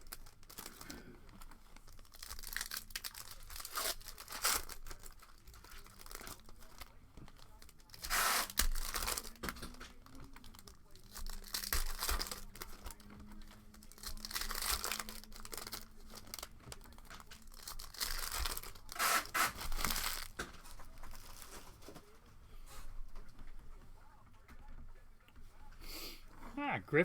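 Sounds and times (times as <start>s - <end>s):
foil wrappers crinkling and tearing: 0.0s - 22.2s.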